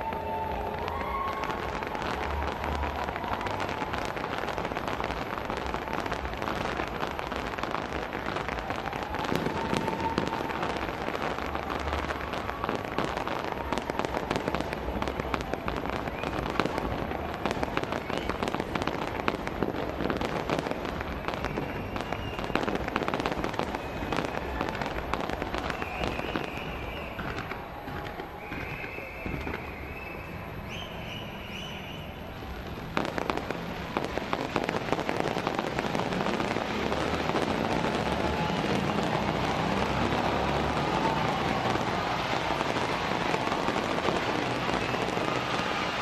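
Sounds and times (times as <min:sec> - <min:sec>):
fireworks crackling and popping: 0:00.0 - 0:46.0.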